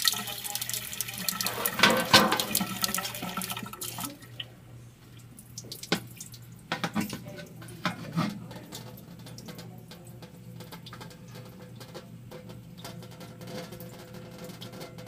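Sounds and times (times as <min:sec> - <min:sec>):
water drips: 0:00.0 - 0:15.0
water splashing onto baking sheet: 0:00.0 - 0:15.0.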